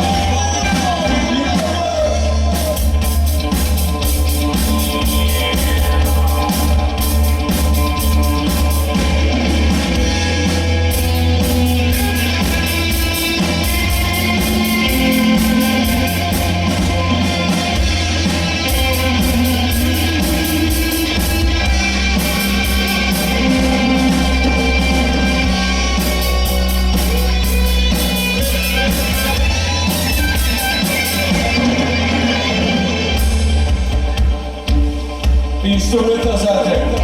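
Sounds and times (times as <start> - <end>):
person singing: 0.0 - 10.6, 11.5 - 31.2
bass guitar: 0.0 - 37.0
drums: 0.0 - 37.0
electric lead guitar: 0.0 - 37.0.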